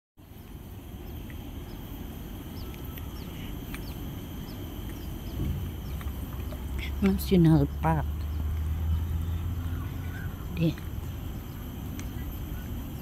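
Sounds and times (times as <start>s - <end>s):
birds chirping: 0.2s - 13.0s
steady low rumble: 0.2s - 13.0s.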